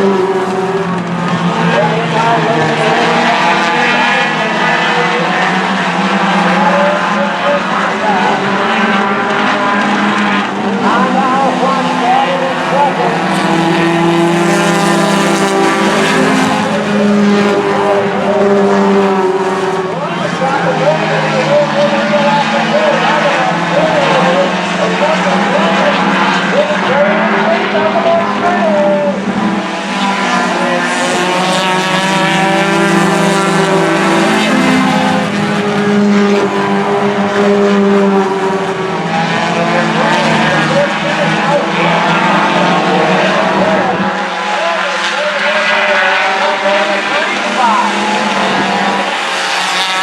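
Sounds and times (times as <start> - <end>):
race car engines at high revs: 0.0 - 50.0.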